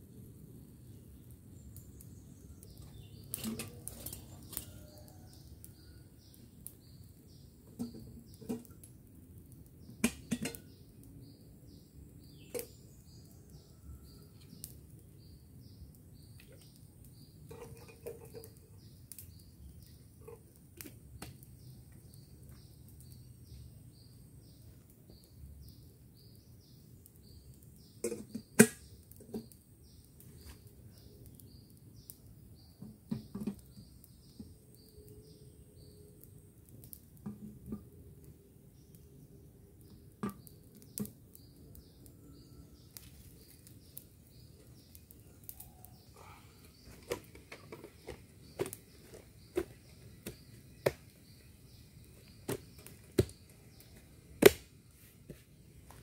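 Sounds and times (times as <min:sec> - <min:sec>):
campfire snapping and knocking: 0:01.2 - 0:39.2, 0:39.8 - 0:46.0, 0:46.7 - 0:56.0.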